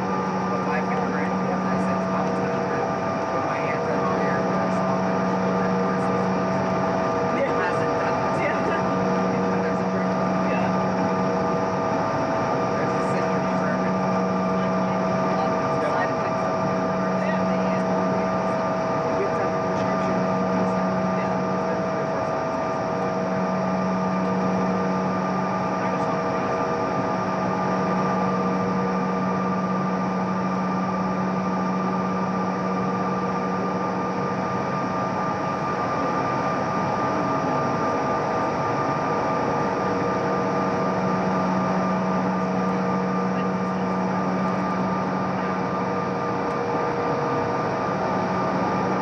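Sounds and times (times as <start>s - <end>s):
aircraft cabin noise: 0.0s - 49.0s
jet engine whining tones: 0.0s - 49.0s.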